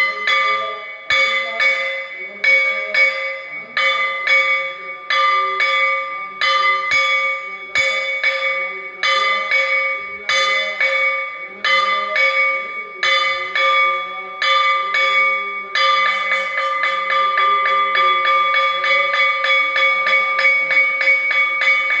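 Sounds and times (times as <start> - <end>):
metal bell ringing: 0.0 - 22.0.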